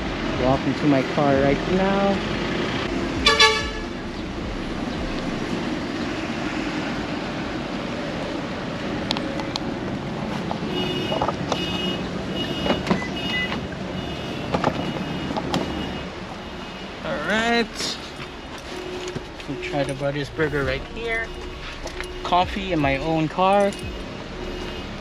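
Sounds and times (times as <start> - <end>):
vehicle engine and traffic: 0.0 - 25.0.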